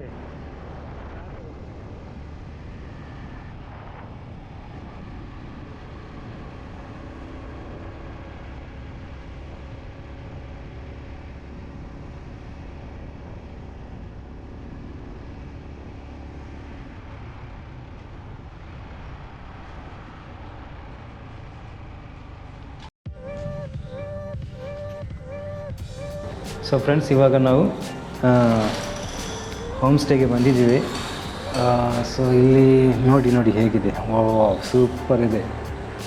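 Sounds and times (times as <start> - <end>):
motorcycle engine cruising: 0.0 - 36.0
wind and road noise: 0.0 - 36.0.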